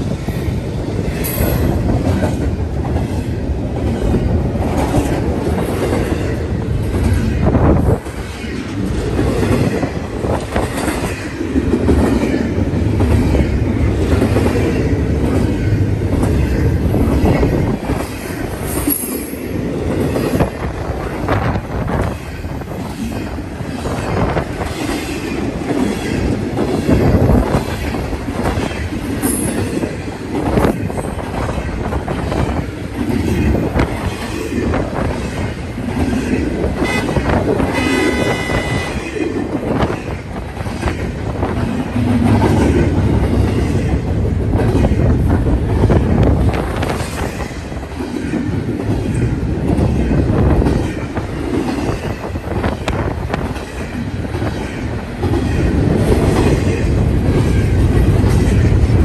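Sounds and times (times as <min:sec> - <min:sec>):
railroad wheels clicking over joints: 0:00.0 - 0:59.0.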